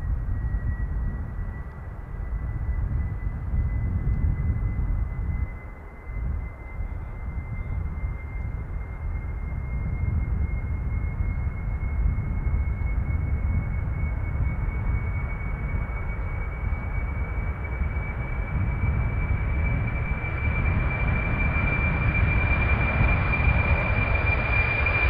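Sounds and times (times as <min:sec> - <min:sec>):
jet engines rumbling with whine: 0:00.0 - 0:25.0.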